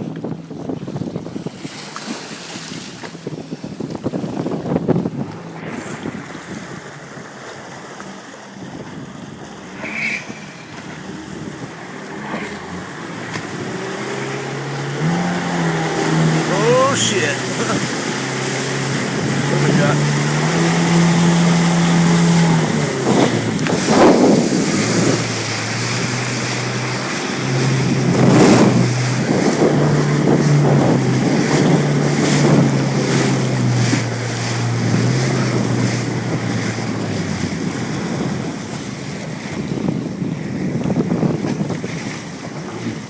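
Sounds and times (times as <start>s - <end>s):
jetski engine running: 0.0s - 43.0s
water lapping: 0.0s - 43.0s
wind: 0.0s - 43.0s.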